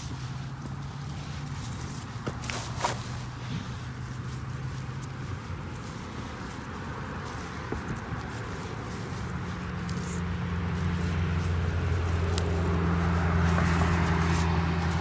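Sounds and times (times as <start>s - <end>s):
car engine hum passing: 0.0s - 15.0s.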